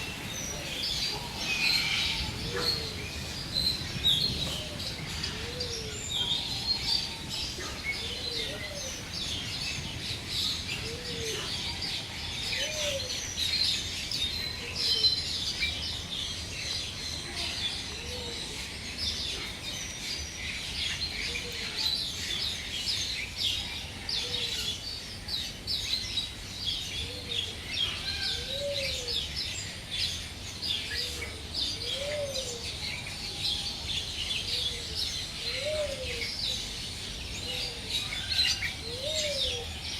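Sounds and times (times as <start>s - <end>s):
many birds chirping and twittering: 0.0s - 39.9s.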